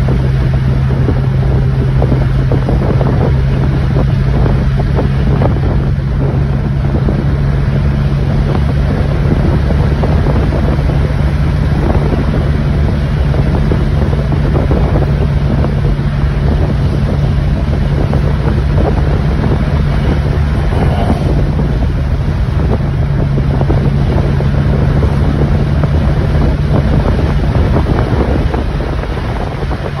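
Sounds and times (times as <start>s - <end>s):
car engine drone: 0.0s - 30.0s
wind rushing over microphone: 0.0s - 30.0s.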